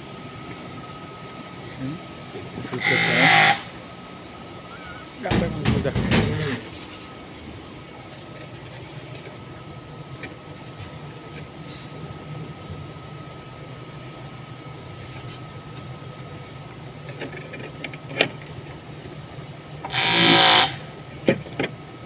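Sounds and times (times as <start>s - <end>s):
rapid repeating mechanical noise: 0.0s - 22.0s
steady low hum: 0.0s - 22.0s.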